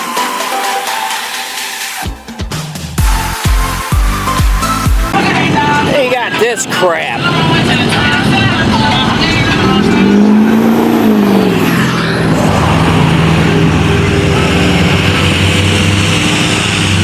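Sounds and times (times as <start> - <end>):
truck engine running: 3.0 - 17.0.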